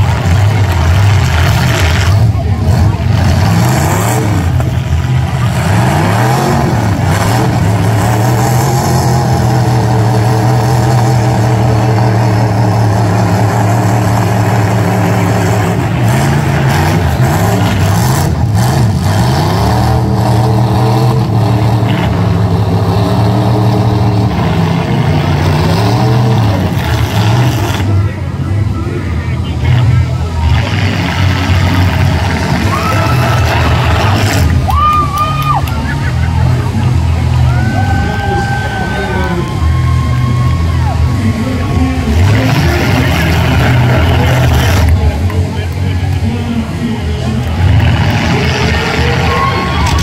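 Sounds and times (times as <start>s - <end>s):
truck engines revving hard: 0.0s - 50.0s.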